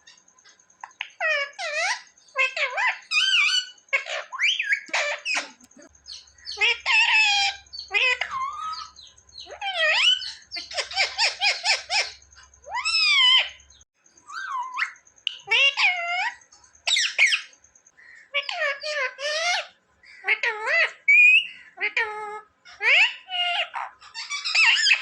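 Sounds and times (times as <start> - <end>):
parrot calls and chatter: 0.0 - 25.0.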